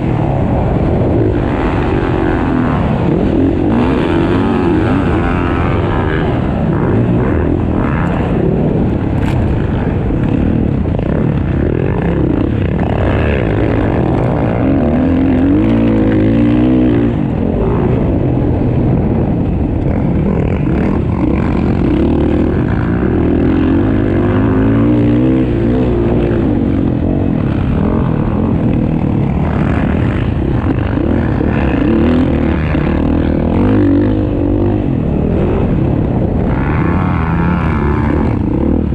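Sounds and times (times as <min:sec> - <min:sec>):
motocross bike engines racing: 0:00.0 - 0:38.9.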